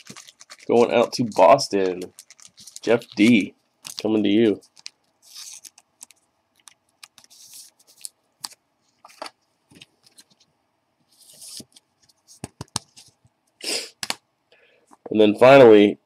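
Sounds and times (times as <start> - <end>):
plastic sleeve rustling: 0.0 - 13.2.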